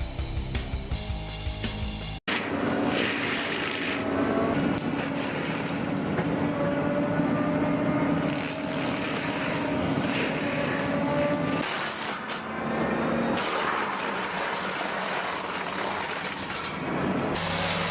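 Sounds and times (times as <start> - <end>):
wood being shredded: 2.3 - 17.9
wood shredder engine drone: 2.3 - 17.9.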